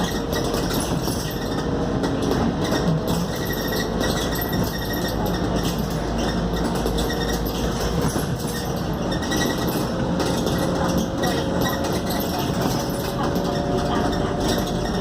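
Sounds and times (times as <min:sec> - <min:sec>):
bus diesel engine running: 0:00.0 - 0:15.0
road noise: 0:00.0 - 0:15.0.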